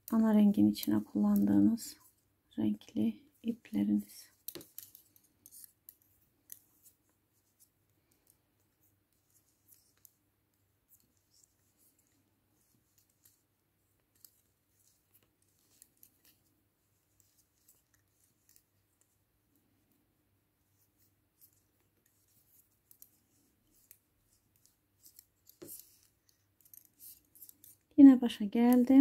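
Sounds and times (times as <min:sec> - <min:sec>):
knitting needles clicking: 0:00.0 - 0:02.1, 0:03.6 - 0:16.5, 0:17.1 - 0:19.2, 0:20.7 - 0:28.0, 0:28.6 - 0:29.0.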